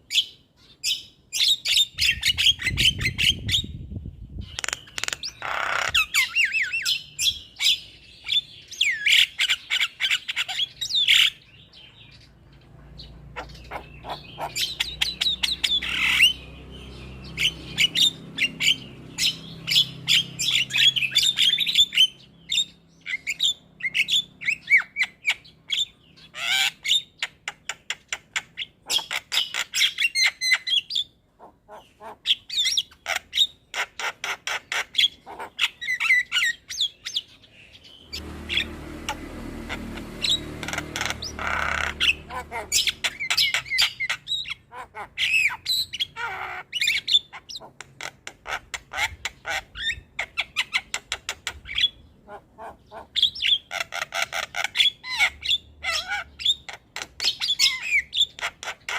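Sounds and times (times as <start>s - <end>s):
myna singing and squawking: 0.1s - 12.2s, 13.0s - 58.9s.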